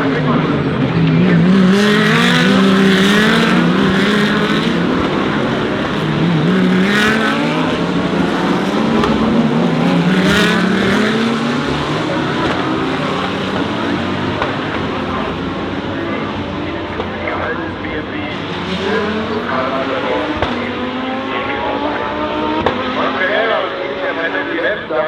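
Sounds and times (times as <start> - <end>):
cars rushing past: 0.0 - 25.0
race car engines: 0.0 - 25.0.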